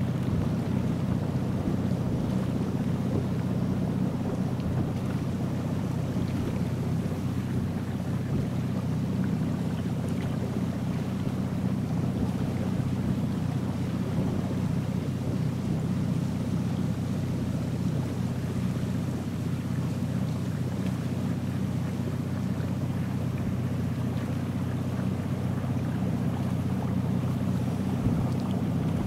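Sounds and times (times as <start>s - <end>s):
motorboat engine droning: 0.0s - 29.0s
water rushing along hull: 0.0s - 29.0s.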